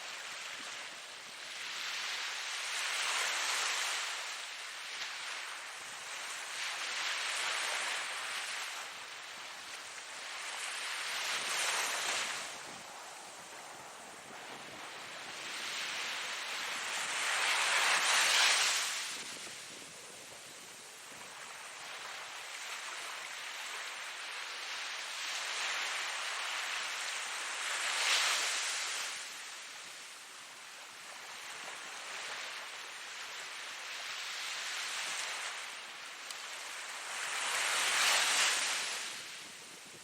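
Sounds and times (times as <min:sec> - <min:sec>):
ocean waves breaking on shore: 0:00.0 - 0:40.0.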